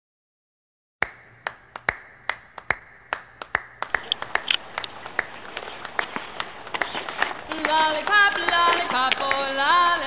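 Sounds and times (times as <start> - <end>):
faint steady hum: 1.0 - 10.0
sharp claps: 1.0 - 10.0.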